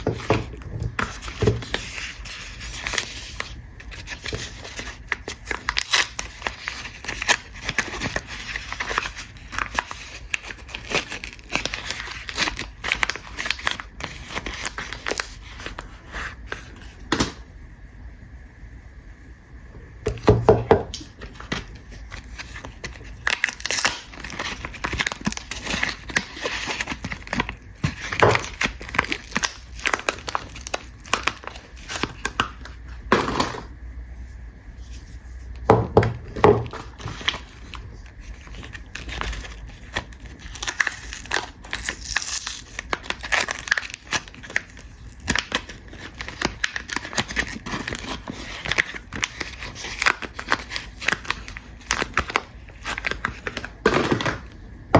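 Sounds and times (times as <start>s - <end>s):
wrapper crinkling and tearing: 0.0s - 17.3s, 20.9s - 33.6s, 36.2s - 54.6s.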